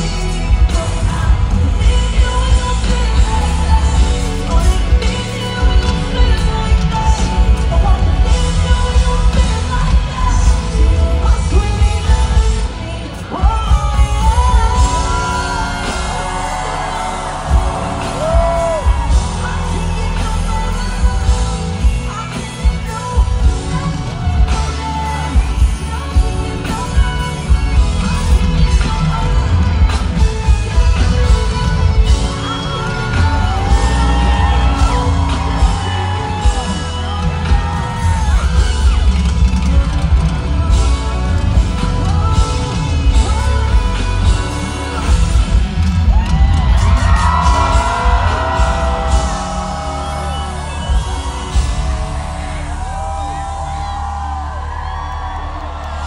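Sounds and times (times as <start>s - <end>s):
deep bass line: 0.0s - 56.0s
woman singing: 0.0s - 56.0s.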